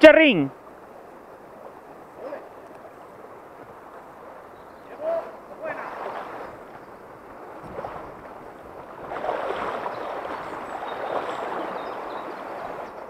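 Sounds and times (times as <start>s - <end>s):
river water rushing over riffles: 0.0s - 13.0s.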